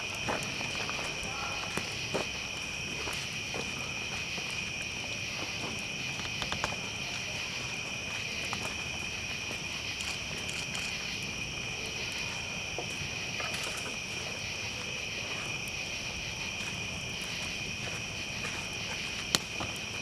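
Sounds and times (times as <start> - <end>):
campfire crackling: 0.0 - 20.0
fire popping: 0.0 - 20.0
night insects chorus: 0.0 - 20.0.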